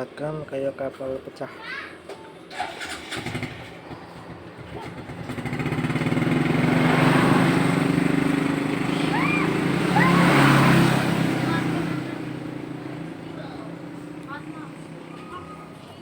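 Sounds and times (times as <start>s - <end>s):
engine running: 2.5s - 16.0s.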